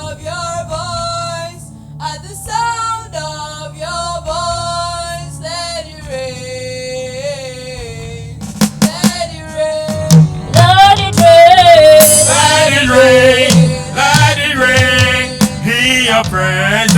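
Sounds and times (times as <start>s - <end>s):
low steady accompaniment: 0.0s - 16.9s
woman singing worship song: 0.0s - 16.9s.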